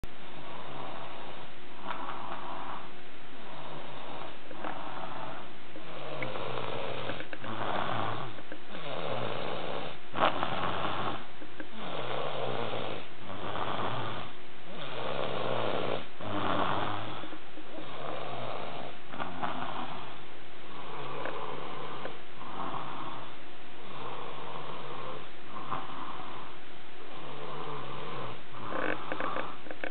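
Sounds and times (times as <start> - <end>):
man snoring loudly: 3.5 - 26.5, 27.1 - 29.8.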